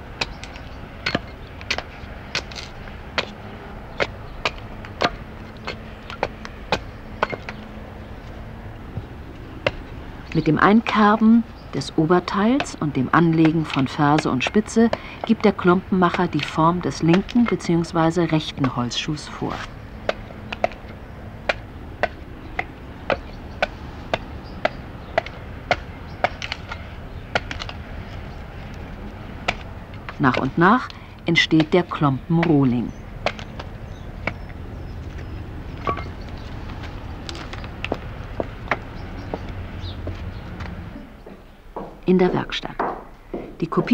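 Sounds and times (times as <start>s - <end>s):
low steady hum: 0.0s - 43.9s
hatchet chopping wood: 0.2s - 7.6s, 9.6s - 34.6s, 35.2s - 39.5s.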